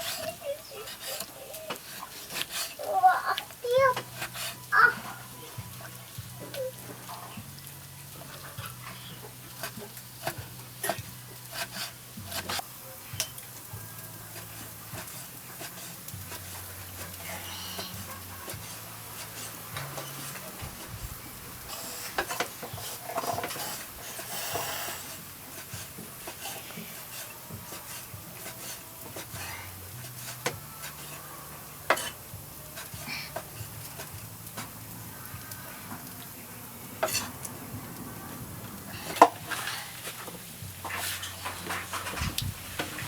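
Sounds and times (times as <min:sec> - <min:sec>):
utensil scraping and knocking pan: 0:00.0 - 0:02.9, 0:03.8 - 0:34.8, 0:37.0 - 0:37.4, 0:39.0 - 0:43.0
food sizzling in a pan: 0:00.0 - 0:43.0.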